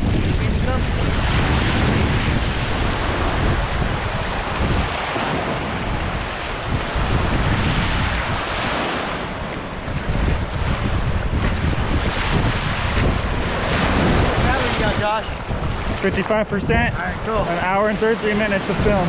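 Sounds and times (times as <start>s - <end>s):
surf washing over sand: 0.0s - 19.0s
wind buffeting microphone: 0.0s - 19.0s.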